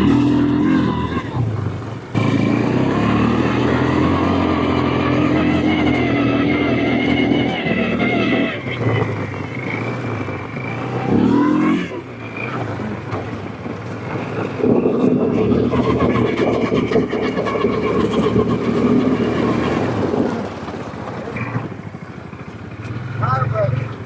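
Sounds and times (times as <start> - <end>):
utility vehicle engine revving: 0.0 - 24.0.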